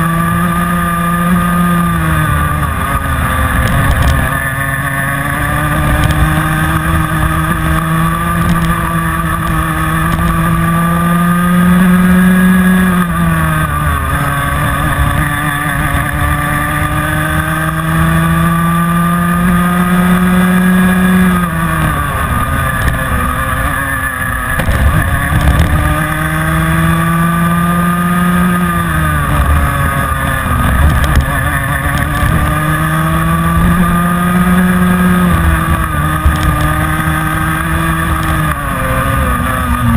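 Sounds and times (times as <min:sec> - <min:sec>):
kart engine at racing speed: 0:00.0 - 0:39.9.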